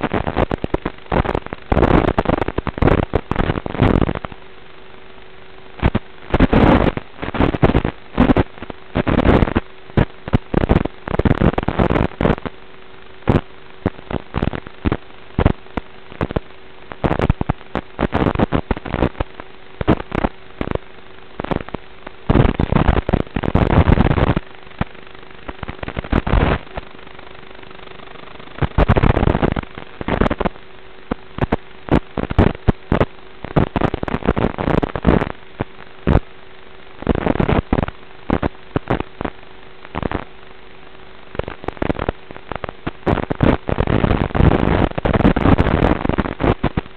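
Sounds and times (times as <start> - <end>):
crackling radio static: 0.0 - 46.9
faint constant hum: 0.0 - 46.9
steady low hiss: 0.0 - 46.9.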